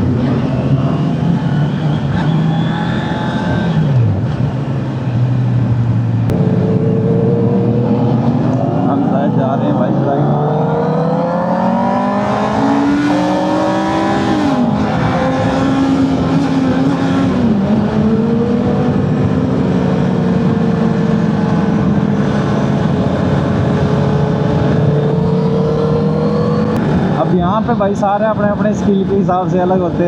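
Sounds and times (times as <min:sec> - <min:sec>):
motorcycle engine accelerating: 0:00.0 - 0:27.8.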